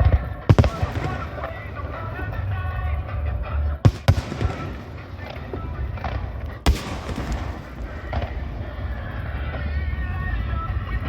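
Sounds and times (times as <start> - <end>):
background music: 0.0 - 11.0
firework shells bursting: 0.5 - 10.5.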